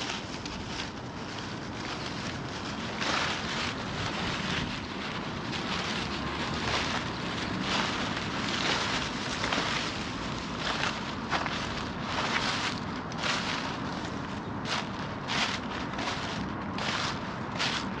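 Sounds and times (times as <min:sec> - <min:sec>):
footsteps crunching: 0:00.0 - 0:18.0.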